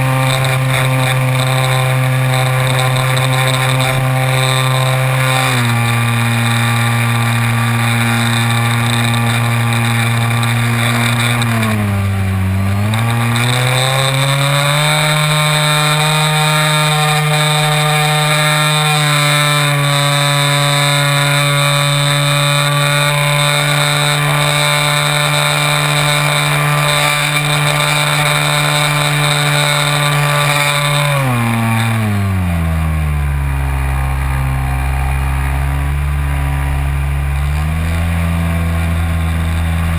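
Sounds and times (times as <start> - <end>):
electric propeller motor buzzing: 0.0 - 39.9.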